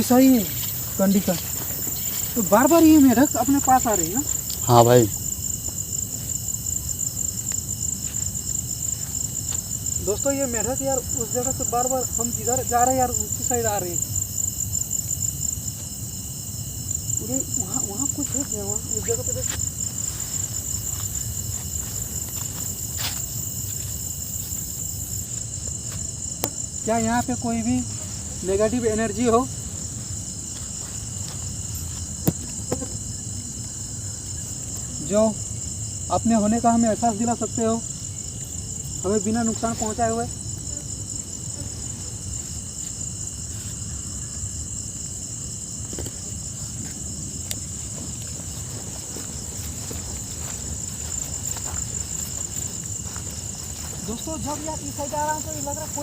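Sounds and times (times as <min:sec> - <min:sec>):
crickets trilling: 0:00.0 - 0:56.0
night insects chirring: 0:00.0 - 0:56.0.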